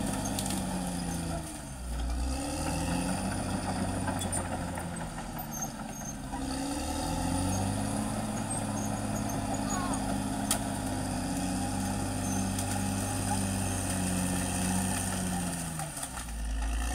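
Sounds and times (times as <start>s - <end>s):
bulldozer diesel engine: 0.0s - 16.9s.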